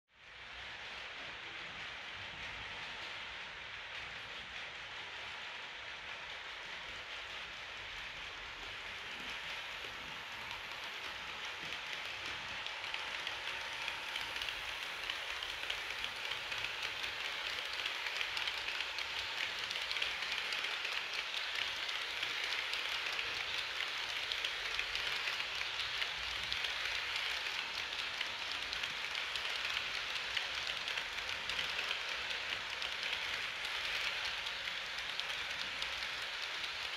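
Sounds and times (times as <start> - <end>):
model train wheels rattling on rails: 0.2 - 36.9.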